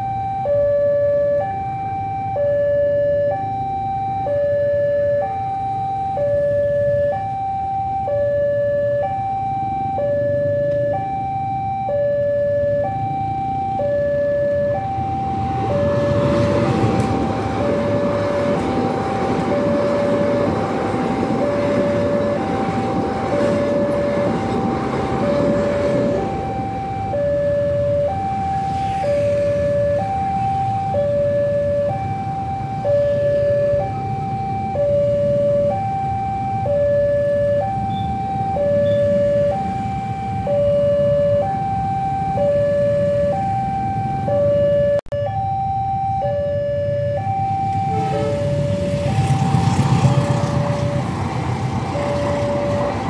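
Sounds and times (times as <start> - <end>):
motorcycle and truck engines: 0.0 - 53.0
two-tone crossing alarm: 0.0 - 53.0.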